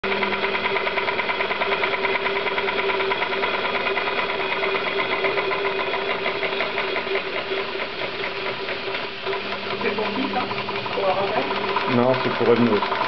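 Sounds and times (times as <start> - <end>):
model steam engine beating: 0.1 - 13.0.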